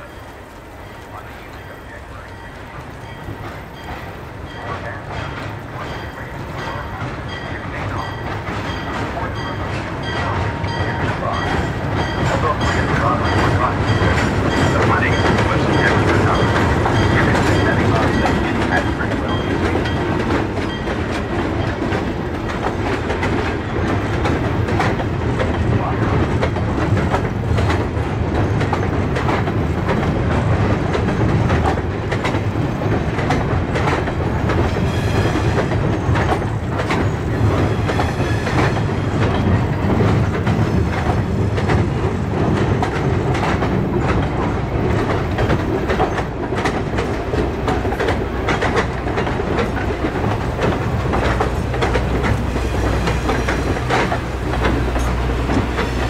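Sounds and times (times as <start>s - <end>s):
train rumbling over steel bridge: 0.0s - 56.0s.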